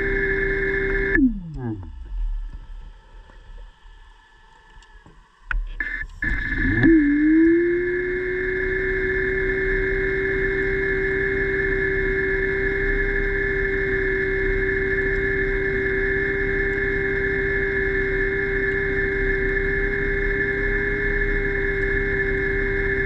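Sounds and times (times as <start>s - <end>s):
low hum: 0.0s - 23.0s
underwater scooter motor whine: 0.0s - 23.0s.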